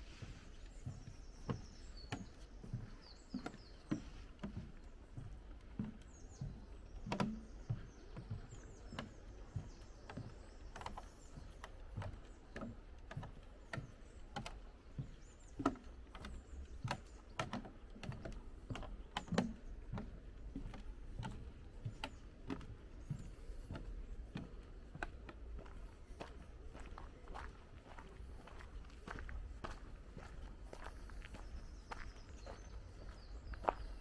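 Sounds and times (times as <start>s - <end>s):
crunchy footsteps on footpath: 0.0s - 34.0s
faint birdsong: 0.0s - 34.0s.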